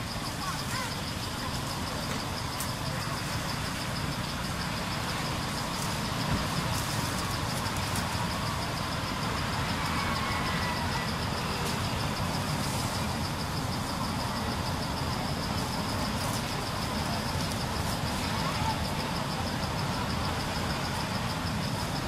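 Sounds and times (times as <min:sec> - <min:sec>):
distant road traffic rumble: 0:00.0 - 0:22.0.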